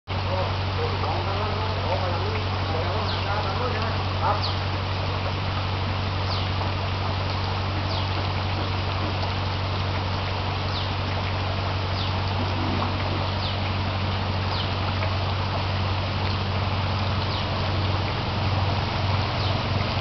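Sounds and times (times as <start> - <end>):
rain: 0.1 - 20.0
running floodwater: 0.1 - 20.0.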